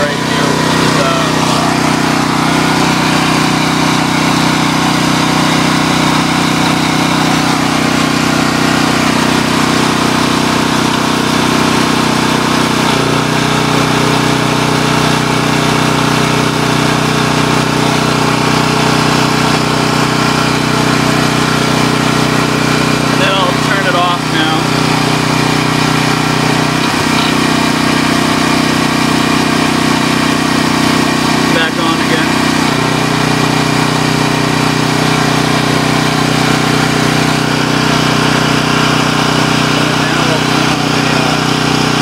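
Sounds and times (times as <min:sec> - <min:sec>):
portable generator engine running: 0:00.0 - 0:42.0.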